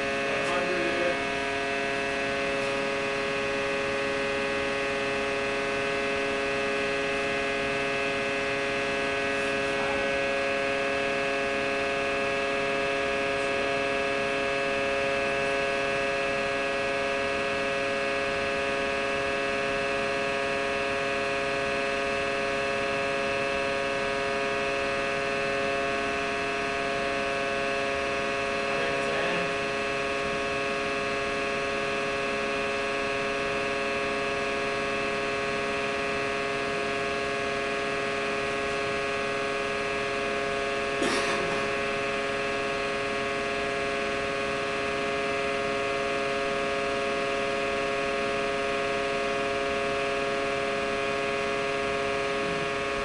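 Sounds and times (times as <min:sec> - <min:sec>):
hydraulic unit electric hum: 0:00.0 - 0:53.0.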